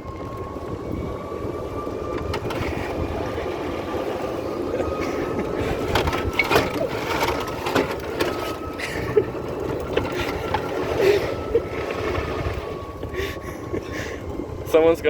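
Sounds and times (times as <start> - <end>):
cart clicking and rattling: 0.0 - 15.0
golf cart driving over pavement: 0.0 - 15.0.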